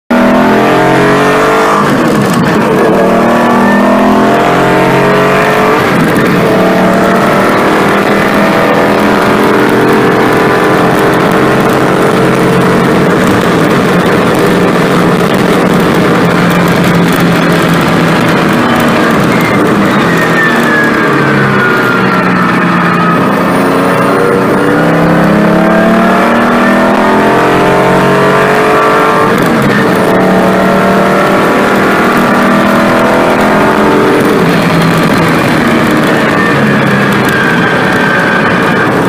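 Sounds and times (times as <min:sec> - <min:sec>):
car engine accelerating hard: 0:00.1 - 0:39.0.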